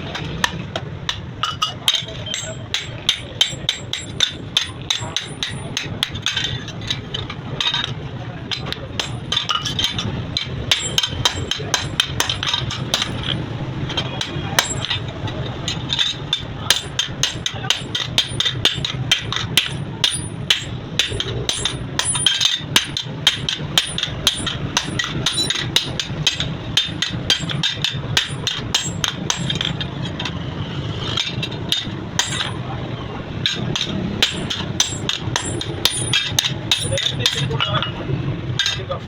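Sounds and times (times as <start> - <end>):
hammer striking steel: 0.2 - 30.4, 31.0 - 39.0.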